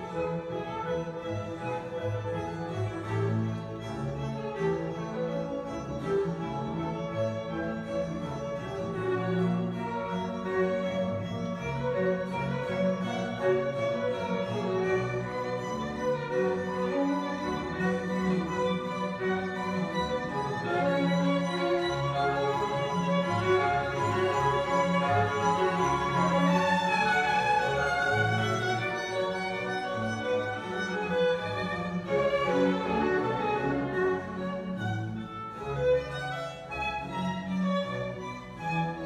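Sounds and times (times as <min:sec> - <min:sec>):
slow orchestral strings: 0:00.0 - 0:39.0.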